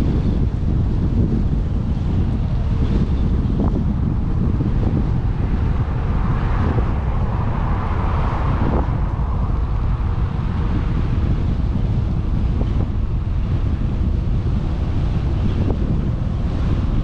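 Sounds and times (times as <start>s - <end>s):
vehicle tyre noise passing: 0.0s - 17.0s
wind buffeting microphone: 0.0s - 17.0s.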